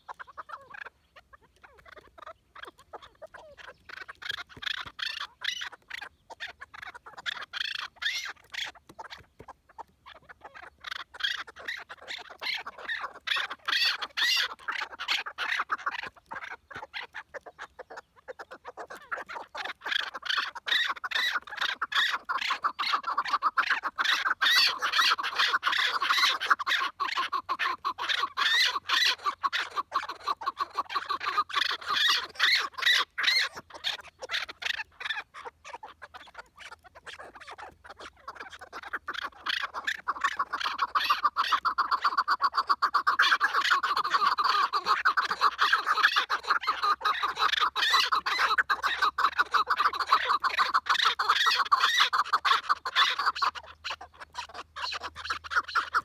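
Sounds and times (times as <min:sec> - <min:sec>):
partridges calling in chorus: 0:00.0 - 0:56.0.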